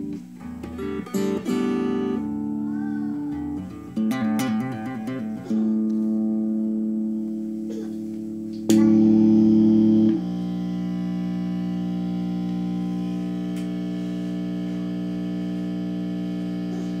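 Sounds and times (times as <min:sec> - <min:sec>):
guitar amp buzzing hum: 0:00.0 - 0:17.0.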